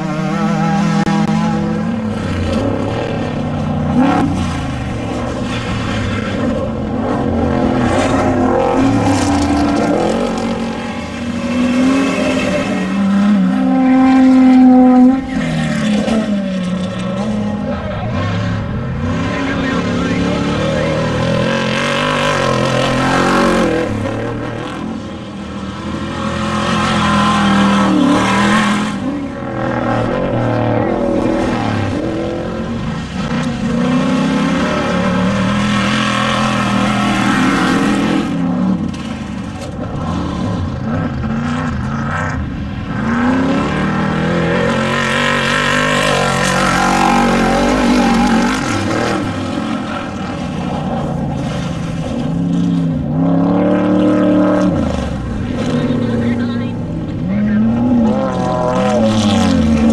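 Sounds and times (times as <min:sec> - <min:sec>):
race vehicle engines revving: 0:00.0 - 0:59.9.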